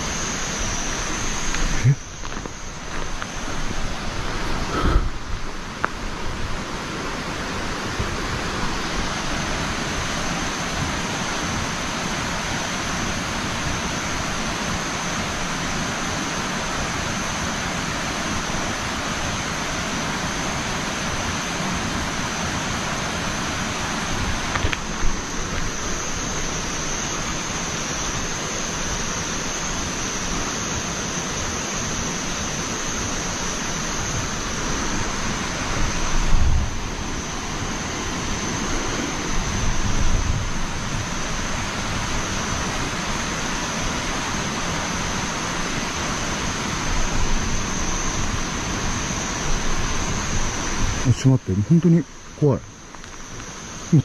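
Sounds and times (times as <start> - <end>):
high-pitched whine: 0.0 - 54.0
rushing outdoor noise: 0.0 - 54.0.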